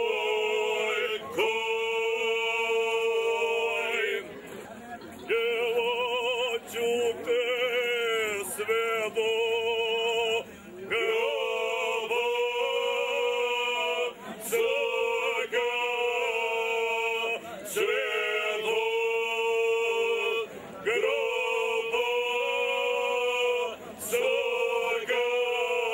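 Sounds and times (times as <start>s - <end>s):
men singing with trembling voices: 0.0s - 4.2s, 5.2s - 25.9s.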